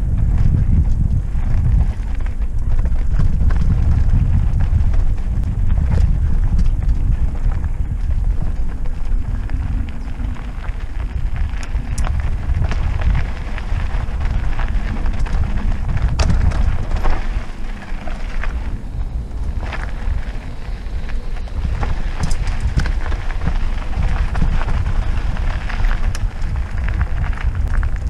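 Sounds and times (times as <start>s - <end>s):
bike clicks and rattles: 0.0s - 28.0s
tyres crackling on dirt: 0.0s - 28.0s
wind buffeting microphone: 0.0s - 28.0s.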